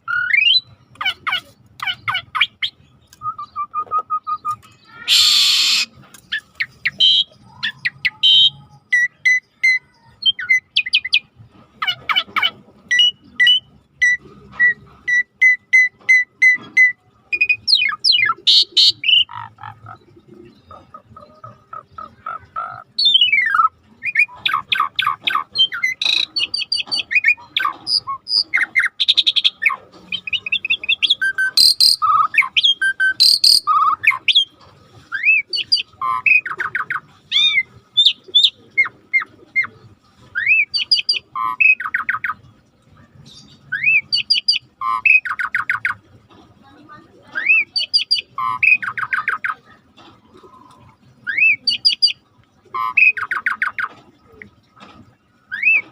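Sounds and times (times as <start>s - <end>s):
birds singing in chorus: 0.0s - 46.2s, 47.3s - 54.6s, 55.4s - 55.9s.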